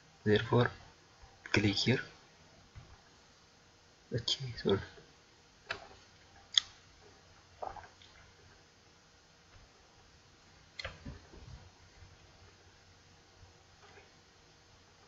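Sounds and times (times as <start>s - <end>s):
small soft noises: 0.0s - 15.0s.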